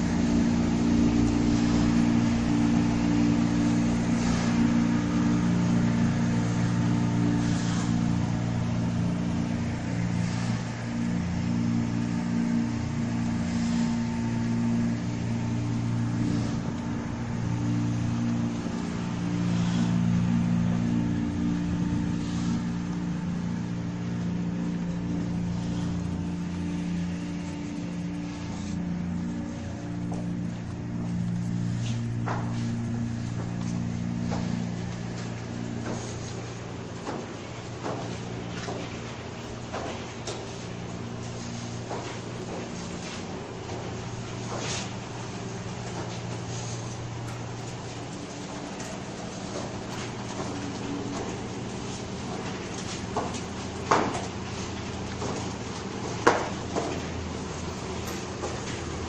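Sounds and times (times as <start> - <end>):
machinery droning: 0.0 - 59.0.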